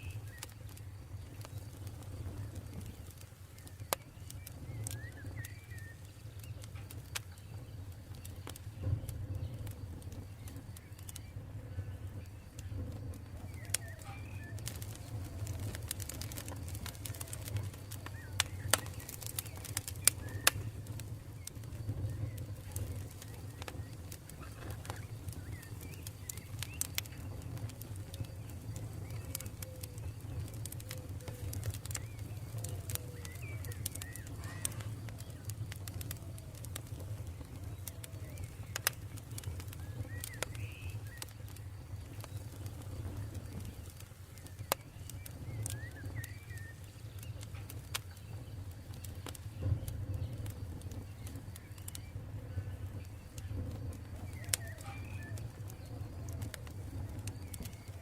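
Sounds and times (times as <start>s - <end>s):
campfire crackling and popping: 0.0s - 58.0s
faint bird calls: 0.0s - 58.0s.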